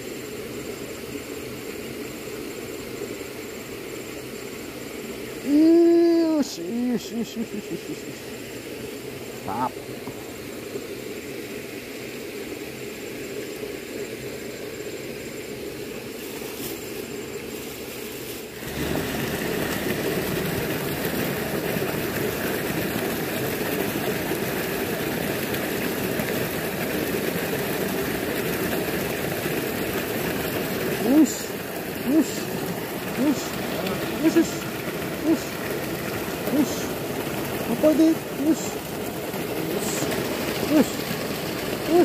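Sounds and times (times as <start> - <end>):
water rushing over weir: 0.0 - 42.0.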